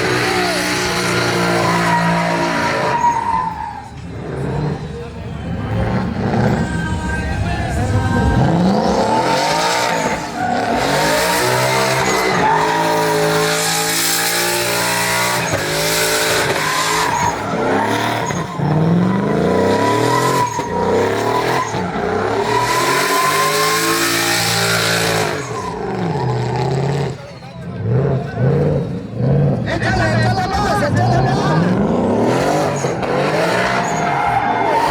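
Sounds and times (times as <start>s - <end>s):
tire squeal: 0.0s - 34.9s
truck engine revving: 0.0s - 34.9s.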